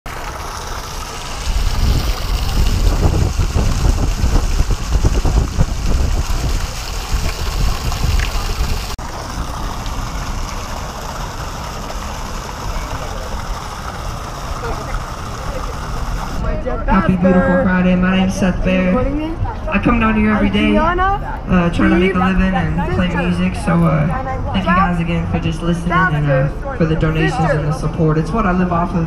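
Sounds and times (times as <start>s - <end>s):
fountain water splashing: 0.1s - 29.0s
heavy low rumble: 0.2s - 27.1s.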